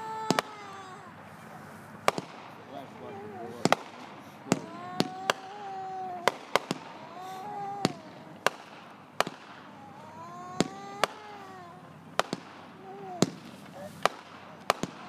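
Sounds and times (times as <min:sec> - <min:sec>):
fireworks bangs: 0:00.0 - 0:15.0
wavering whistling fireworks: 0:00.0 - 0:15.0.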